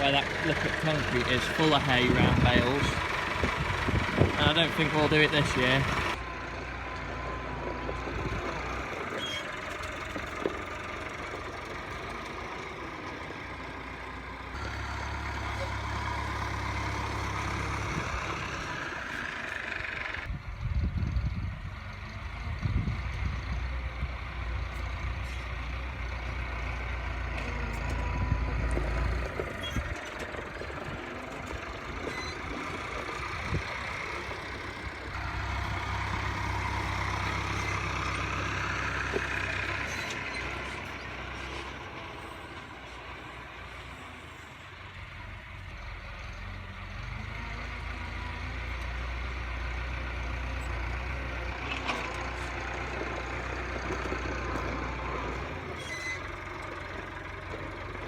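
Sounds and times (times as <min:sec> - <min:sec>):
engine whine: 0:00.0 - 0:58.0
tractor engine running: 0:00.0 - 0:58.0.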